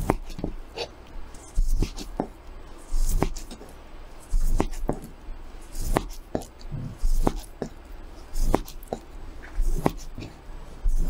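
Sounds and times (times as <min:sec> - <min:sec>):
knife slicing fish: 0:00.0 - 0:03.7, 0:04.3 - 0:05.1, 0:05.7 - 0:11.0.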